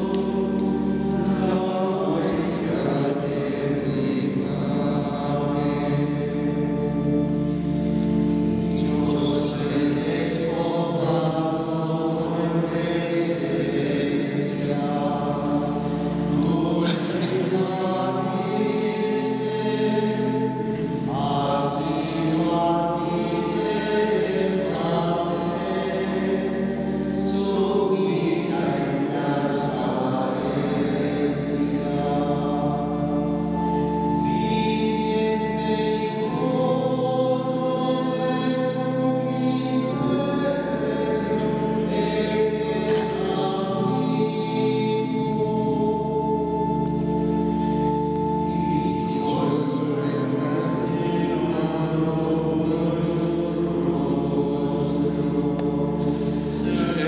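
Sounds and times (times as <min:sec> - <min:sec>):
male choir chanting: 0:00.0 - 0:07.5, 0:08.5 - 0:47.2, 0:47.8 - 0:57.0.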